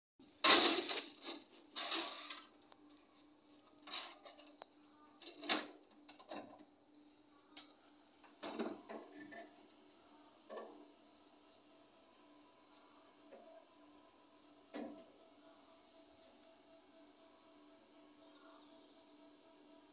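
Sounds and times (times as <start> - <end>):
faint steady hum: 0.2 - 19.9.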